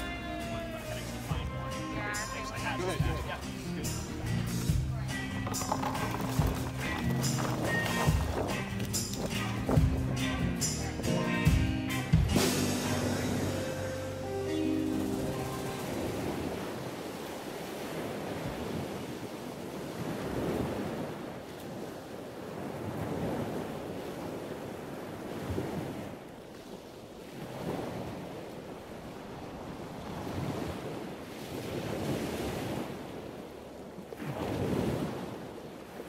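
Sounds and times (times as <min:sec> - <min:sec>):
waves on open water: 0:00.0 - 0:36.0.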